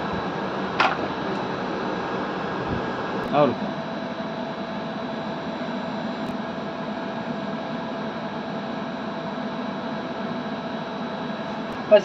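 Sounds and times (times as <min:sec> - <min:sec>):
vehicle cabin hiss and hum: 0:00.0 - 0:09.2, 0:11.2 - 0:12.0
faint constant whine: 0:00.0 - 0:12.0.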